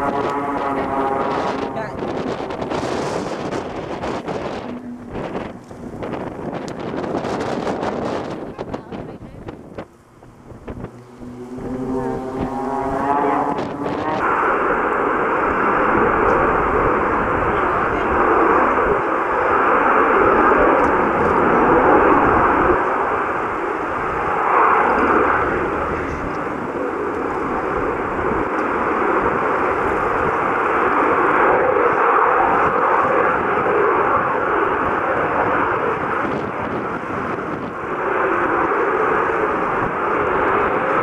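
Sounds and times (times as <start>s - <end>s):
jet engine roaring: 0.0s - 41.0s
propeller aircraft engine: 0.0s - 41.0s.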